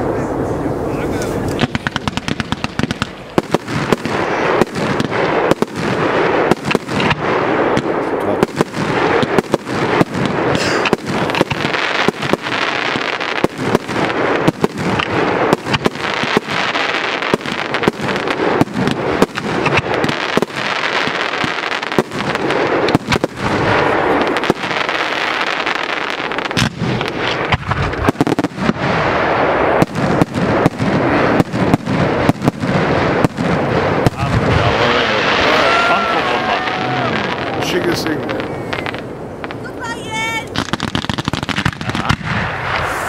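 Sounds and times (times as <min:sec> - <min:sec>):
fireworks bangs: 0:00.0 - 0:43.0
fireworks crackle: 0:00.0 - 0:43.0.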